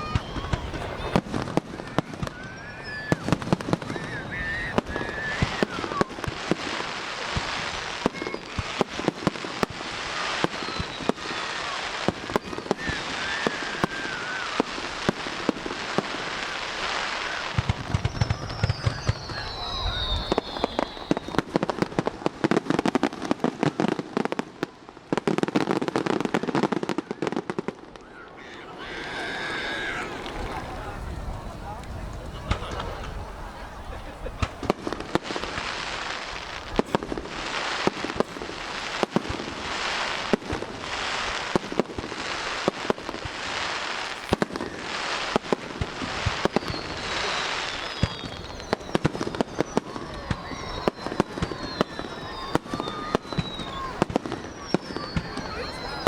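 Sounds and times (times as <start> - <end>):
deep fireworks booms: 0.0 - 56.0
fireworks bursting and crackling: 0.0 - 56.0.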